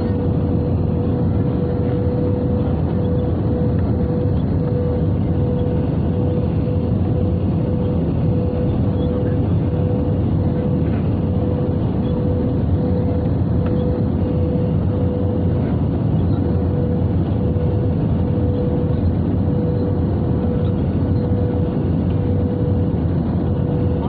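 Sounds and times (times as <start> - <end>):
aircraft cabin engine rumble: 0.0 - 24.0
pulsing hum: 0.0 - 24.0.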